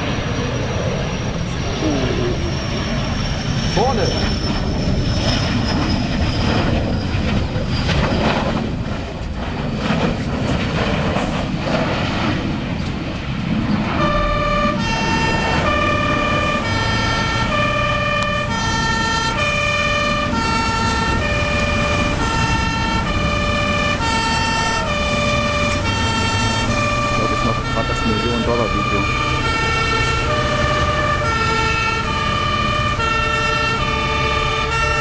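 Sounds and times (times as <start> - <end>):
two-tone siren: 0.0 - 8.5, 13.8 - 35.0
loud rumbling: 0.0 - 35.0.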